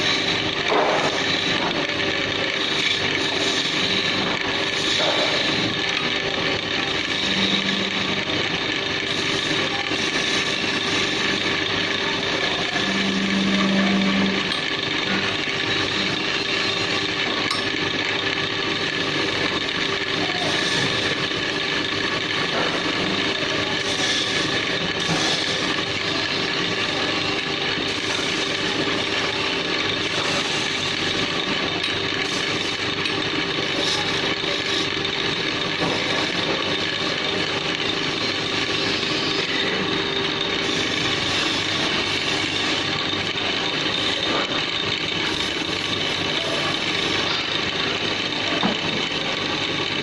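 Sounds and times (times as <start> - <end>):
chisel scraping spinning wood: 0.0 - 50.0
wood lathe motor humming: 0.0 - 50.0.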